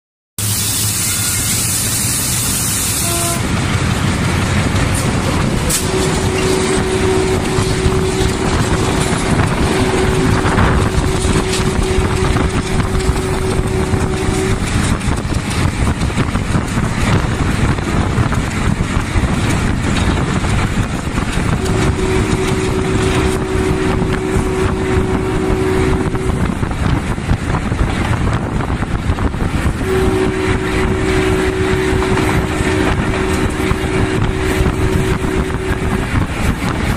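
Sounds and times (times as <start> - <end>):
diesel locomotive running at speed: 0.4 - 36.9
steady horn tone: 0.4 - 36.9.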